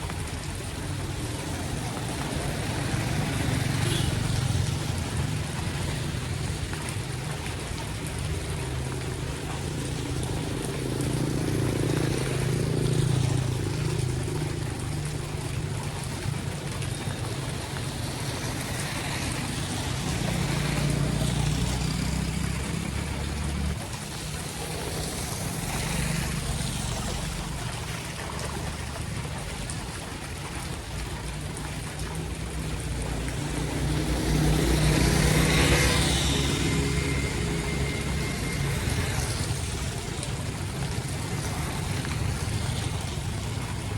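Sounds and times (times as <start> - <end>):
rain and floodwater rushing: 0.0 - 43.9.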